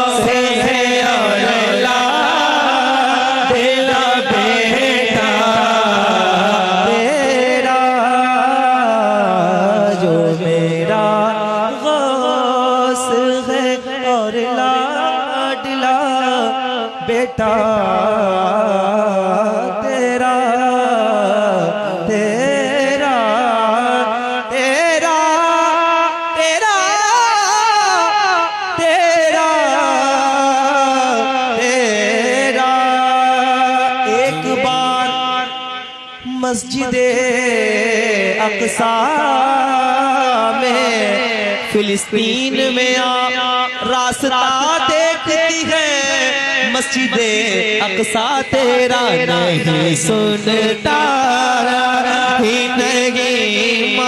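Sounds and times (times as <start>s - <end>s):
man singing devotional song: 0.0s - 54.0s.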